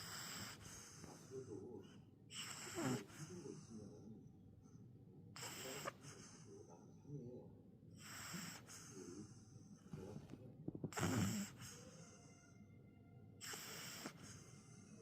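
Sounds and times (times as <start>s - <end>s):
dog snoring: 0.0s - 4.1s, 5.3s - 7.2s, 8.0s - 12.6s, 13.4s - 15.0s.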